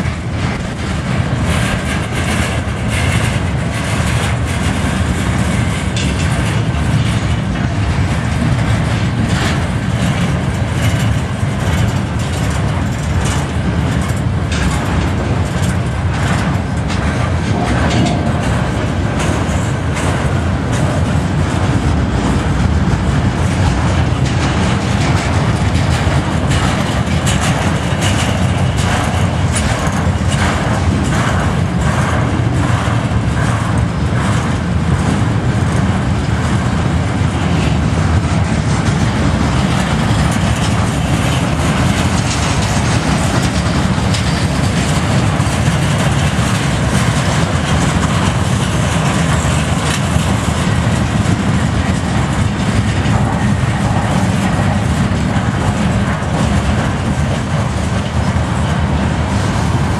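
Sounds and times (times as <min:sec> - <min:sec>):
freight cars knocking and clanking: 0:00.0 - 0:59.9
train wheels rumbling on rails: 0:00.0 - 0:59.9.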